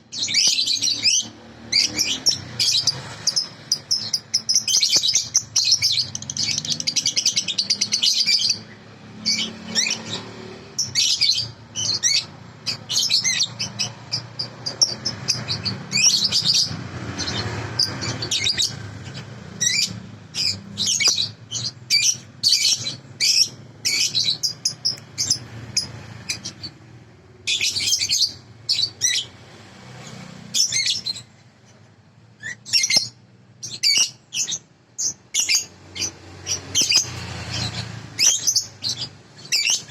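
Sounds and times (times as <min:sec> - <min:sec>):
lovebird chirping and twittering: 0:00.0 - 0:39.9.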